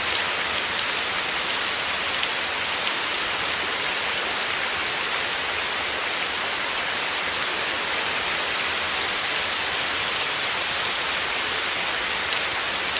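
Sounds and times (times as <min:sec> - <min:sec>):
heavy rain falling: 0:00.0 - 0:12.9.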